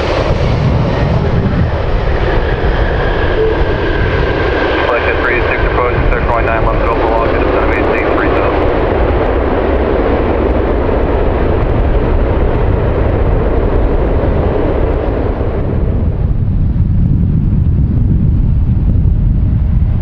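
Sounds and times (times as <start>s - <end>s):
jet airliner engine noise: 0.0s - 20.0s.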